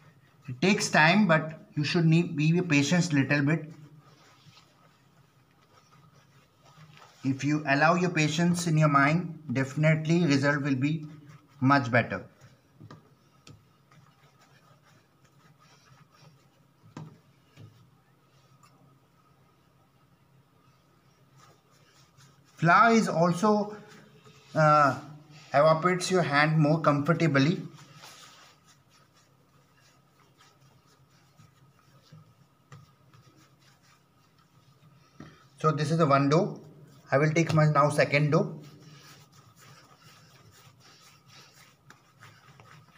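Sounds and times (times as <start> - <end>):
hands rubbing bread dough: 0.0 - 42.9.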